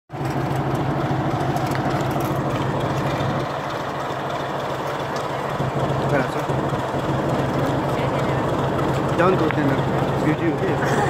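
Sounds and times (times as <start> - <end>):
diesel locomotive engine droning: 0.1 - 11.0.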